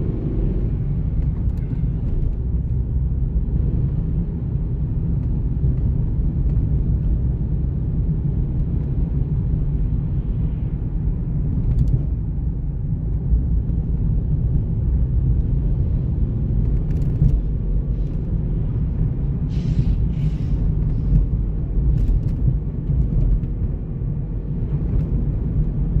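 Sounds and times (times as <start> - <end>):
vehicle rumble: 0.0 - 26.0.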